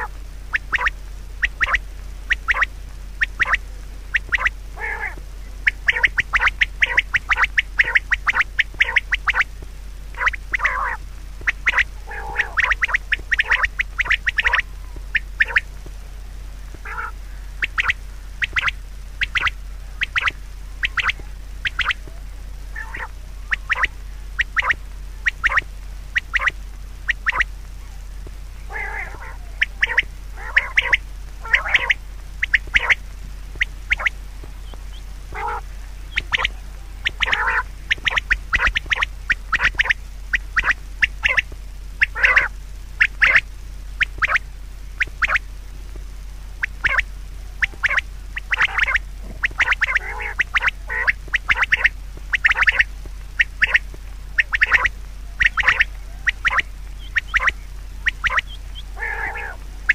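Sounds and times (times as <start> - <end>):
birds calling: 0.0 - 59.9
steady low hum: 0.0 - 59.9.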